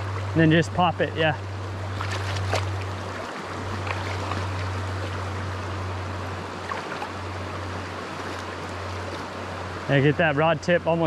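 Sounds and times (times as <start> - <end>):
constant low hum: 0.0 - 11.0
creek water flowing: 0.0 - 11.0.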